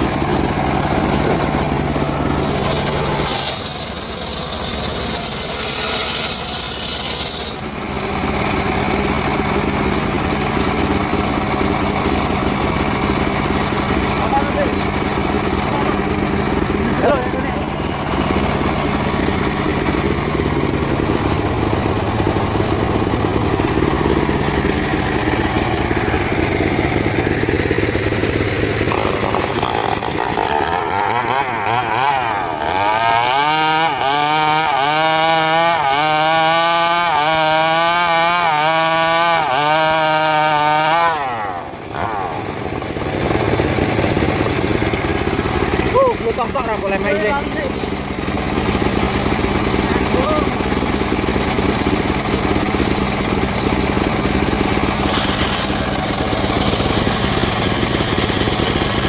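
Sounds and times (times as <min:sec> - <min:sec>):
loud wavering saw whine: 0:00.0 - 0:09.7, 0:12.6 - 0:59.0
engine-driven wood saw running: 0:00.0 - 0:59.0.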